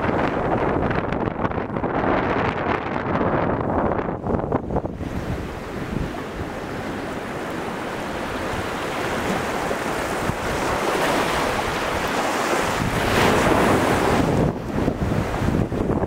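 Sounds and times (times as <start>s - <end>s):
ocean surf against rocks: 0.0s - 16.0s
wind rumbling on microphone: 0.0s - 16.0s.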